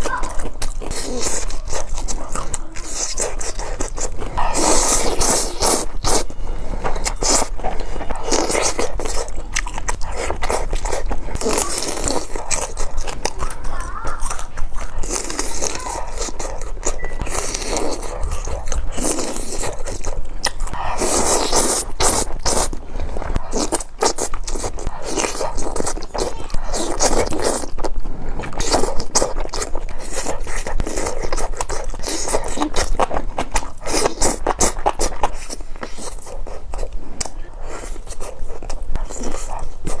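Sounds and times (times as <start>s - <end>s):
crunching and crackling eating: 0.0s - 40.0s.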